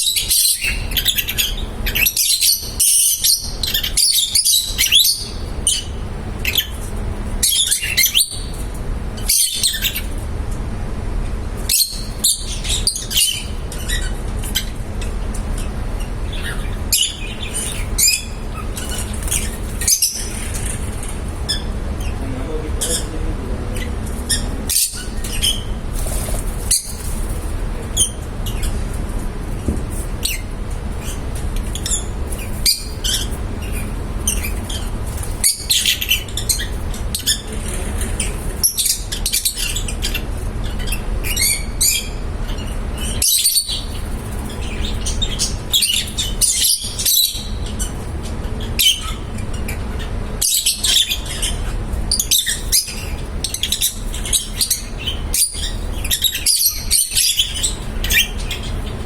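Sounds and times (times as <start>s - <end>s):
lovebirds chirping: 0.0s - 10.2s, 11.6s - 29.0s, 29.8s - 59.0s
low background hum: 0.0s - 59.0s.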